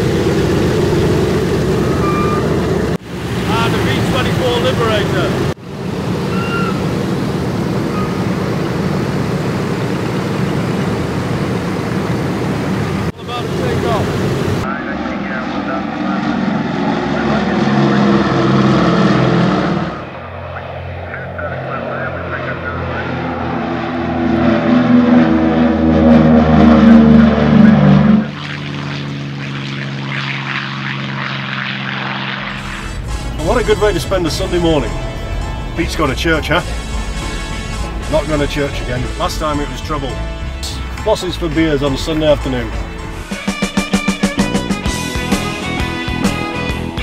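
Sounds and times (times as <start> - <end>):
aircraft radial engines rumbling: 0.0 - 47.0.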